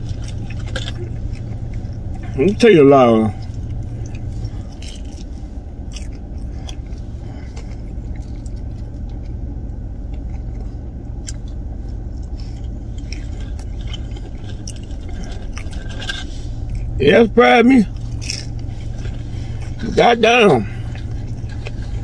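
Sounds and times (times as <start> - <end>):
low car cabin hum: 0.0 - 22.0
man chewing crispy food: 0.0 - 22.0.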